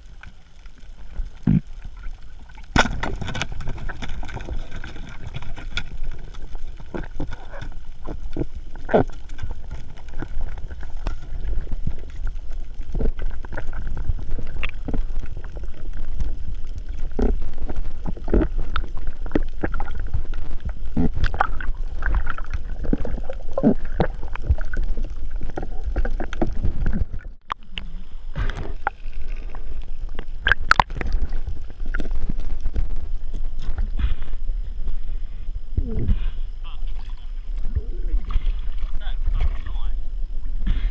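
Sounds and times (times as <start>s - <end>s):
underwater rumble of moving water: 0.0s - 40.9s.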